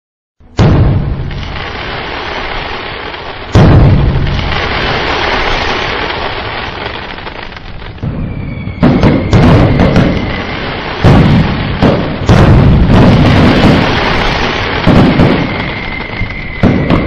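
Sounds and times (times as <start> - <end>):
fireworks booming bangs: 0.4 - 17.0
fireworks rumble and crackle: 0.4 - 17.0
firework whistle: 0.6 - 17.0.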